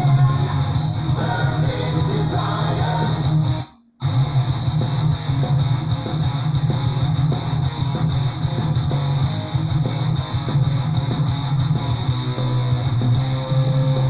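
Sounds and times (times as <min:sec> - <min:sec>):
instrumental metal music: 0:00.0 - 0:14.0.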